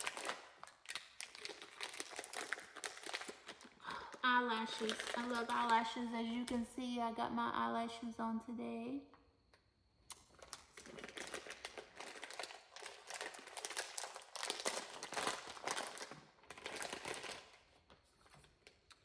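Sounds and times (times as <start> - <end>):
plastic packaging crinkling: 0.0 - 6.7, 10.2 - 19.0.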